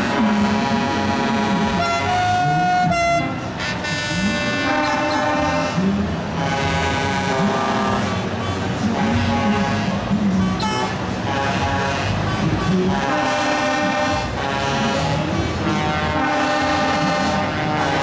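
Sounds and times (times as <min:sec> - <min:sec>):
truck horns honking: 0:00.0 - 0:18.0.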